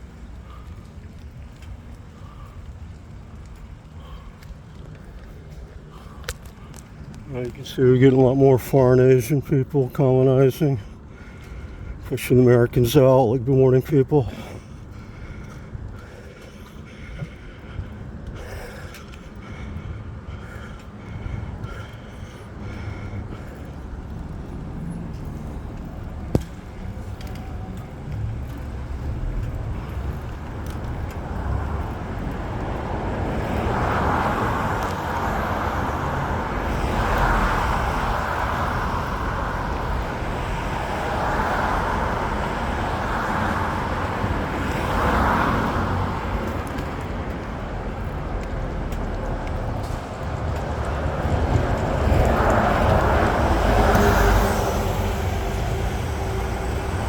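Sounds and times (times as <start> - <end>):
steady low traffic rumble: 0.0 - 57.0
vehicles passing: 0.0 - 57.0.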